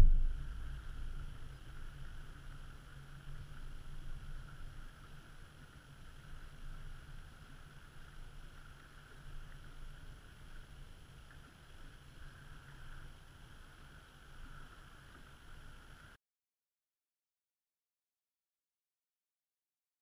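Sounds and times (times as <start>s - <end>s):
small waves lapping at shore: 0.0s - 16.2s
wind rumbling on microphone: 0.0s - 16.2s.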